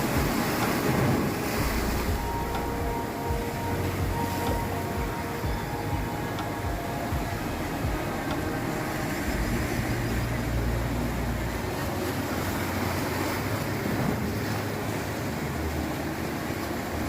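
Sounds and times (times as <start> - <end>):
low rumble: 0.0 - 17.0
waves breaking over rocks: 0.0 - 17.0.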